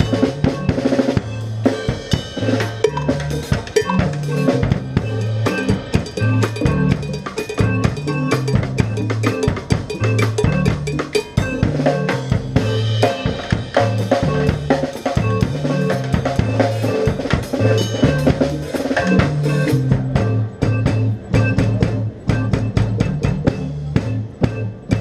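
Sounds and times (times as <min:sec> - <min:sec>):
drum kit fast beat: 0:00.0 - 0:25.0
repeating bass line: 0:00.0 - 0:25.0.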